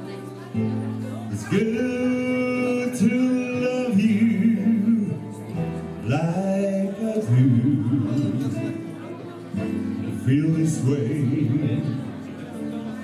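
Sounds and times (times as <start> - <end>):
backing music: 0.0 - 13.0
man singing into a microphone: 1.0 - 13.0.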